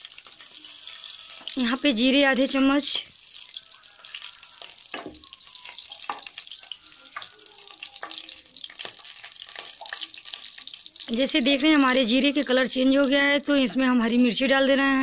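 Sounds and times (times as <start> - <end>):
seeds sizzling in hot ghee: 0.0 - 15.0.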